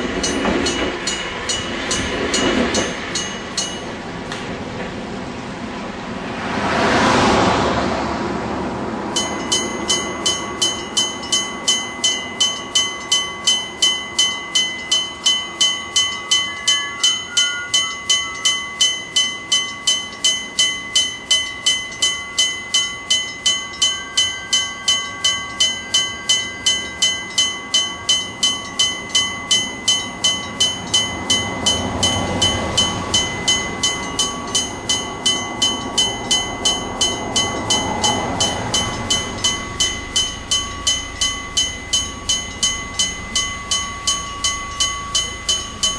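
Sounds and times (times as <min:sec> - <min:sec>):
level-crossing bell ringing: 0:00.0 - 0:04.0, 0:09.2 - 0:45.9
passing train rumble: 0:00.0 - 0:45.9.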